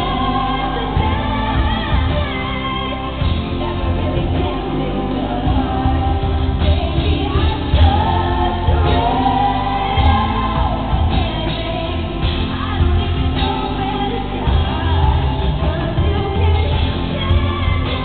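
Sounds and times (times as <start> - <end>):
amplified accompaniment with bass: 0.0 - 18.0
woman singing a slow ballad: 0.0 - 18.0.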